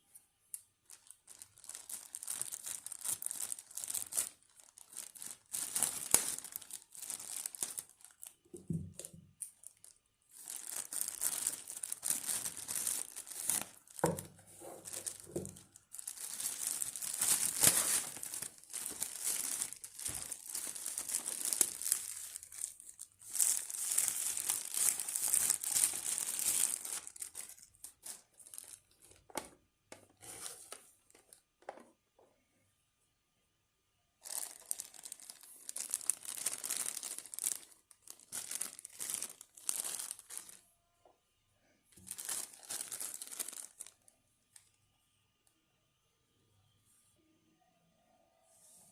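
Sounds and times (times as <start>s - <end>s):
packaging crinkling and rustling: 0.8s - 31.9s, 34.2s - 40.6s, 42.0s - 44.0s.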